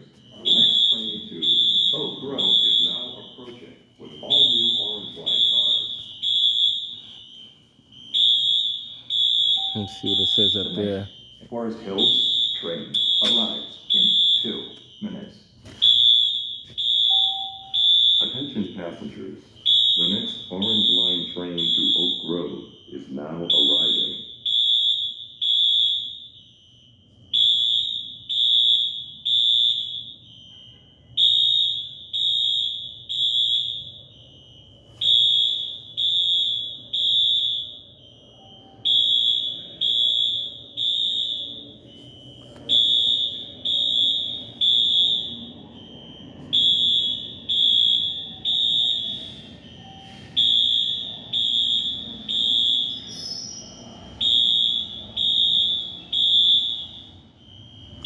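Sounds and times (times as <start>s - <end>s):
fire alarm high beeps: 0.0s - 58.0s.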